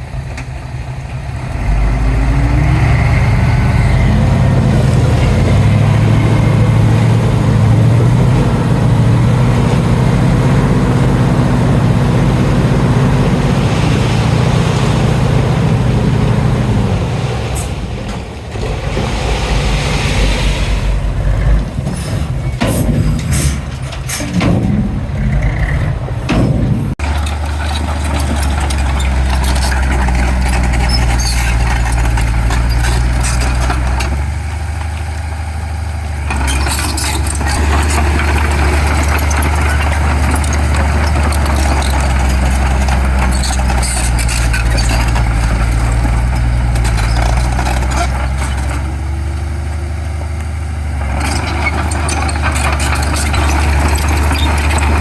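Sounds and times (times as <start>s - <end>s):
diesel machinery engine drone: 0.0s - 55.0s
machinery rattling and clanking: 0.0s - 55.0s.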